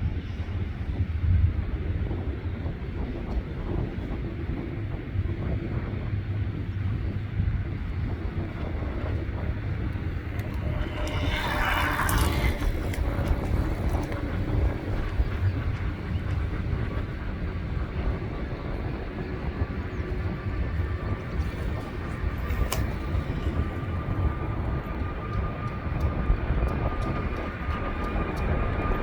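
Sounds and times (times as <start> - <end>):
low engine rumble: 0.0 - 29.0
wind buffeting microphone: 0.0 - 29.0.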